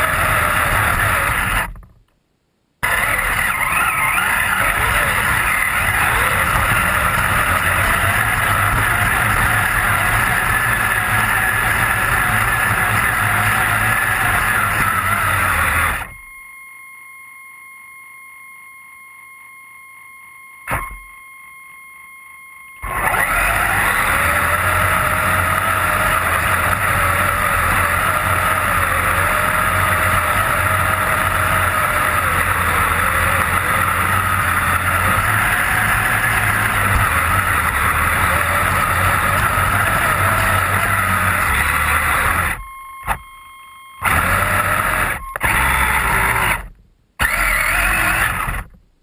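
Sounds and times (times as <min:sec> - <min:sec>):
electric motor whine: 0:00.0 - 0:01.9, 0:02.8 - 0:48.8.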